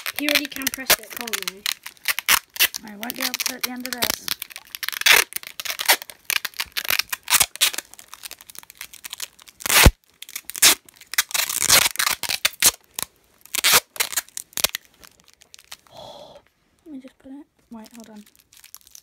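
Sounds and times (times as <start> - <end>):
masking tape ripping off roll: 0.0 - 15.9, 17.7 - 19.0
tape wrapped round crinkly bundle: 0.0 - 16.0, 16.7 - 19.0.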